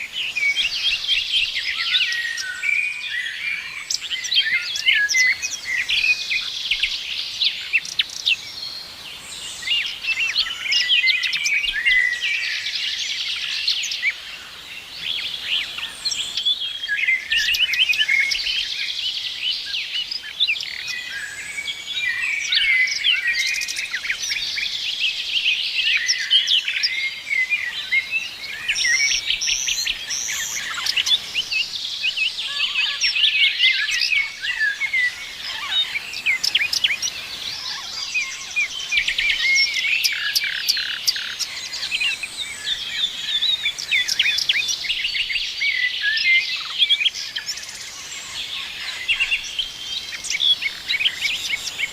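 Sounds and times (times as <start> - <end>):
small birds chirping and trilling: 0.0 - 51.9.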